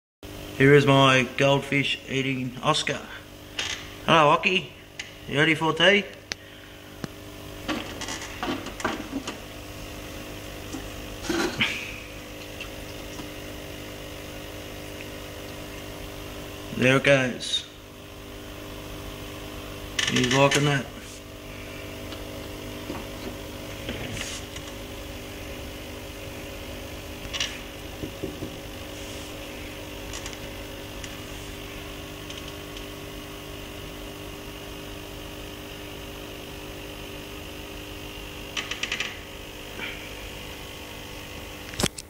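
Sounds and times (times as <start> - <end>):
aquarium equipment humming: 0.2 - 42.0.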